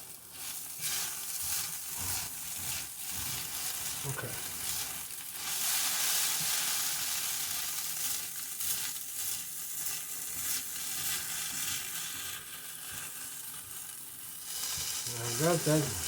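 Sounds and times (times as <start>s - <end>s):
food sizzling in a frying pan: 0.0s - 16.0s
spatula scraping pan: 0.4s - 13.4s.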